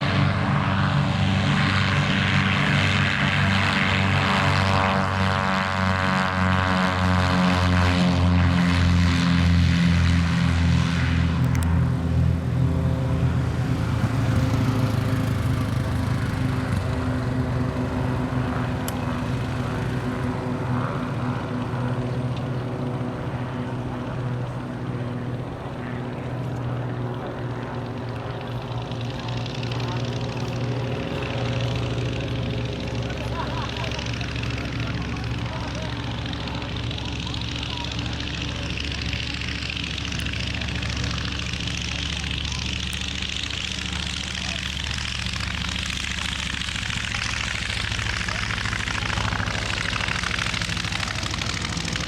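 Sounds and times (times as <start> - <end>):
propeller plane droning: 0.0 - 52.0.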